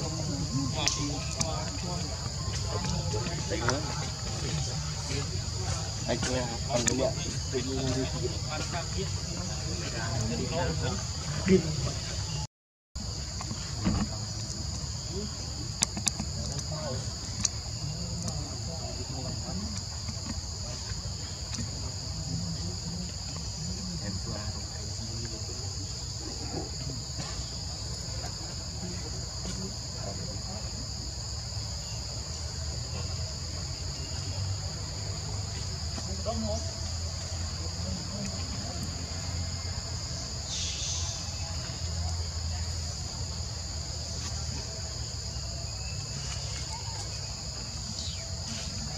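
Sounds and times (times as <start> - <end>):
insects buzzing: 0.0 - 48.9.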